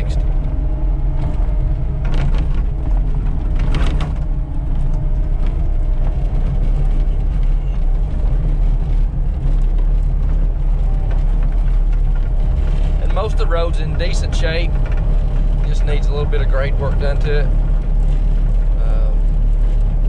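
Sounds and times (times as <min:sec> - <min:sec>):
rattles and knocks from bumps: 0:00.0 - 0:20.0
vehicle engine rumble: 0:00.0 - 0:20.0.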